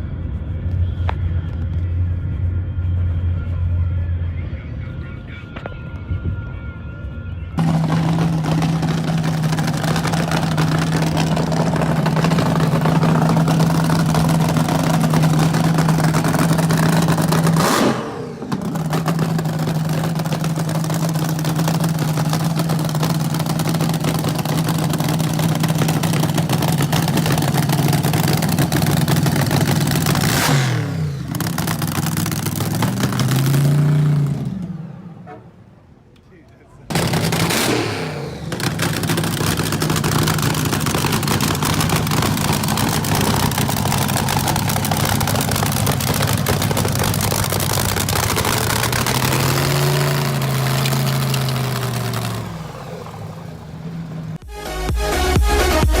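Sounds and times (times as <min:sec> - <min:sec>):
car engine revving high: 0:07.6 - 0:35.7, 0:36.9 - 0:56.0.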